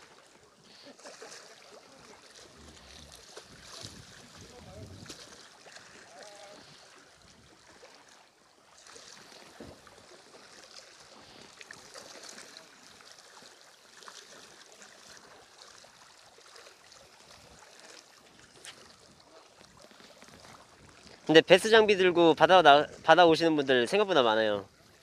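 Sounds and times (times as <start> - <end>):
small waves washing against rocks: 0.0 - 24.2.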